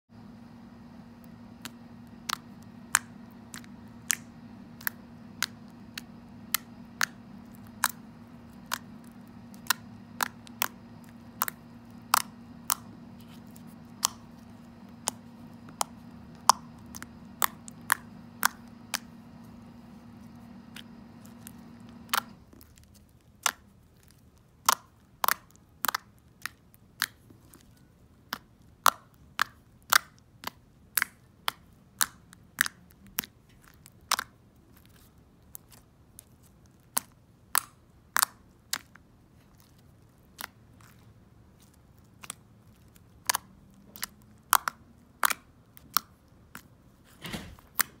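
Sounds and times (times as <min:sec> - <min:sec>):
steady low hum: 0:00.1 - 0:48.0.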